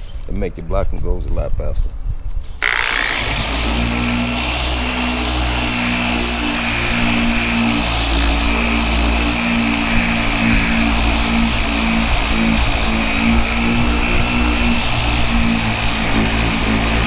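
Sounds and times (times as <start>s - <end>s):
sander running on body filler: 2.6s - 17.0s.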